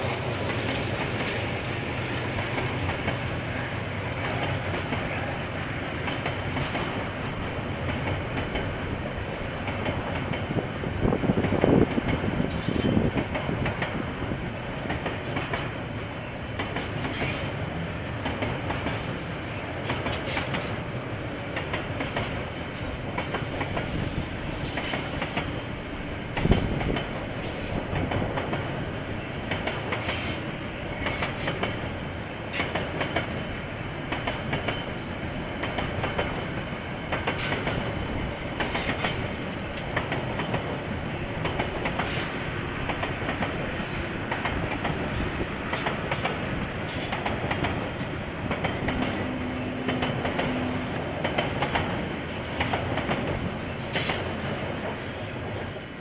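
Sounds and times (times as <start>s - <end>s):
train wheels clattering over rail joints: 6.0s - 9.0s, 9.6s - 15.8s, 16.6s - 17.6s, 18.2s - 19.1s, 19.8s - 20.8s, 21.5s - 55.7s.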